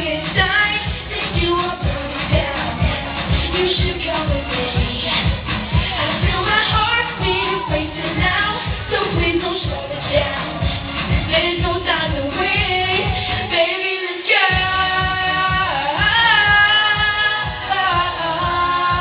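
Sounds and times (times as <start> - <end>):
steady beat: 0.0 - 13.5, 14.5 - 19.0
person singing: 0.0 - 19.0.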